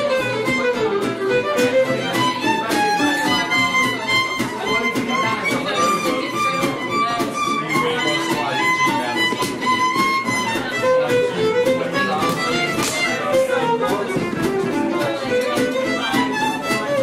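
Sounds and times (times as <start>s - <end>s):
acoustic guitar strumming: 0.0s - 17.0s
violin bowed melody: 0.0s - 17.0s.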